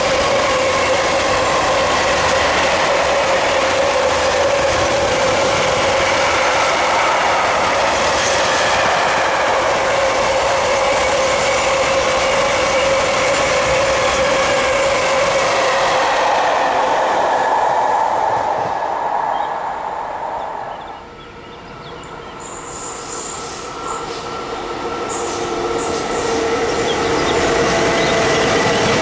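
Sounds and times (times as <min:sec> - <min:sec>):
freight train rolling past: 0:00.0 - 0:29.0
train wheels squealing: 0:00.0 - 0:29.0.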